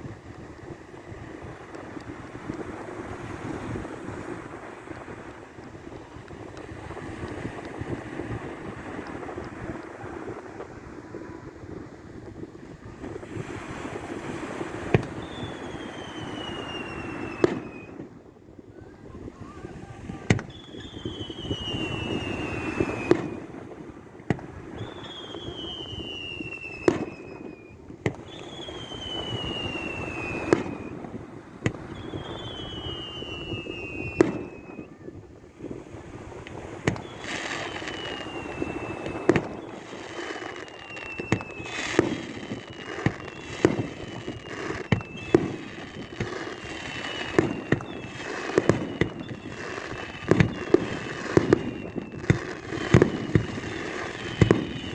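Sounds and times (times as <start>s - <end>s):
whistling firework rising: 0.0s - 54.9s.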